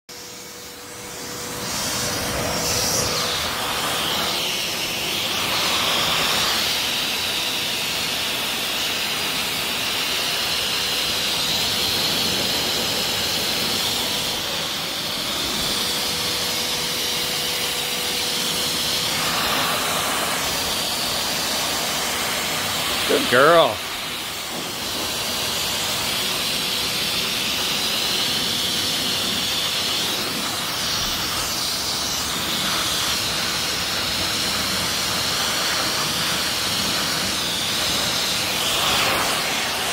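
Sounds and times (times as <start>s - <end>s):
pet blow dryer running: 0.1s - 39.9s.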